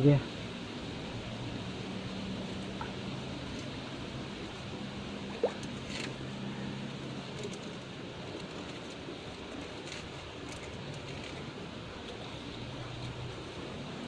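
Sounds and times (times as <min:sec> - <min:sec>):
low steady hum: 0:00.0 - 0:14.0
rushing outdoor noise: 0:00.0 - 0:14.0.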